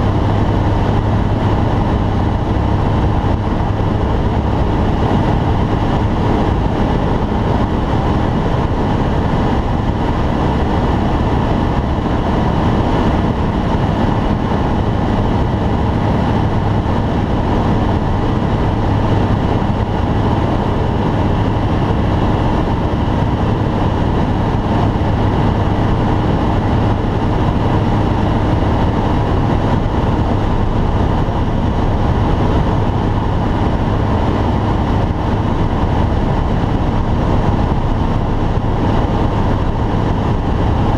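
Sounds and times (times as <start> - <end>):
aircraft engine and propeller drone: 0.0 - 40.9
airflow noise: 0.0 - 40.9.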